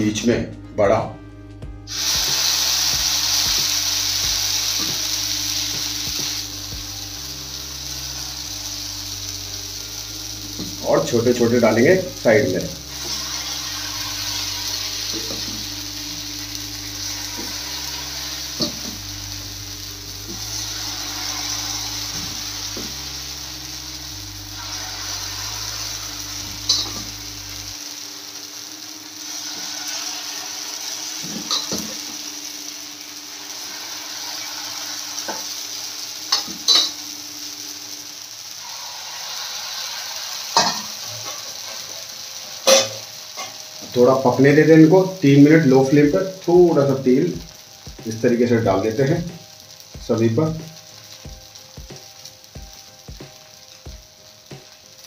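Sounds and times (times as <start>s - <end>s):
batter sizzling in pan: 1.8s - 55.0s.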